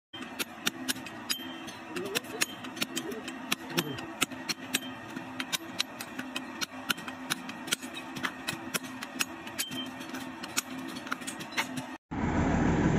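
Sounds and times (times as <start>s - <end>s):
hammer striking steel chisel: 0.2s - 12.0s.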